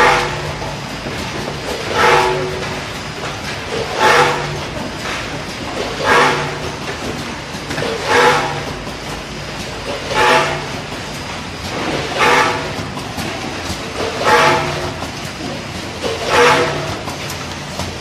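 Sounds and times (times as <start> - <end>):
steady mechanical background: 0.0 - 18.0.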